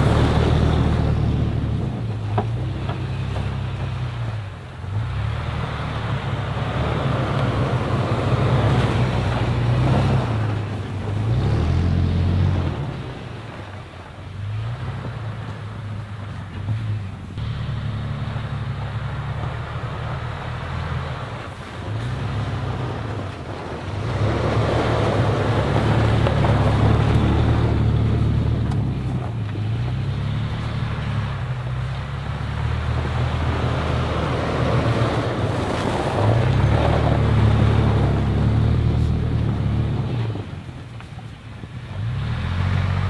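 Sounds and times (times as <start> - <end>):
car engine while driving: 0.0 - 43.0
tyre and road noise: 0.0 - 43.0.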